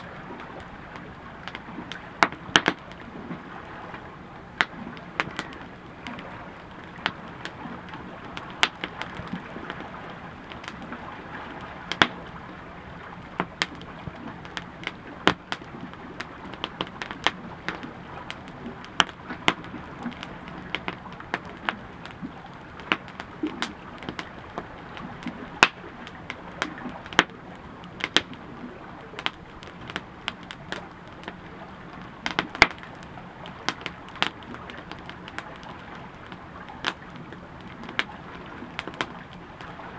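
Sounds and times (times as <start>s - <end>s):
sharp pops of fire: 0.0s - 3.4s, 4.6s - 12.3s, 13.2s - 39.7s
campfire crackling: 0.0s - 39.9s
low hiss of fire: 0.0s - 39.9s.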